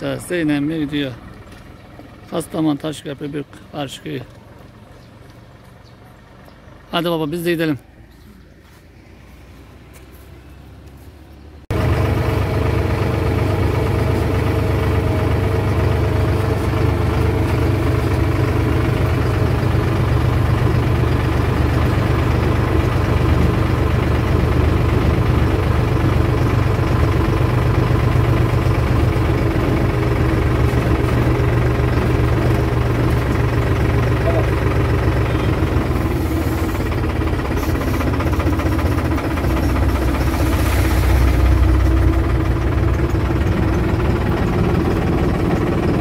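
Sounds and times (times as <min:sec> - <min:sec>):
outdoor background: 0:00.0 - 0:46.0
tractor diesel engine running: 0:00.0 - 0:46.0.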